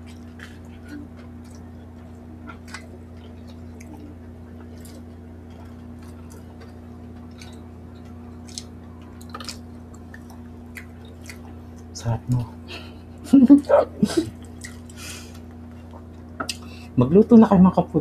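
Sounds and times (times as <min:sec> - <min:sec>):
wet chewing smacks: 0:00.0 - 0:12.4, 0:13.1 - 0:16.7
steady low hum: 0:00.0 - 0:18.0.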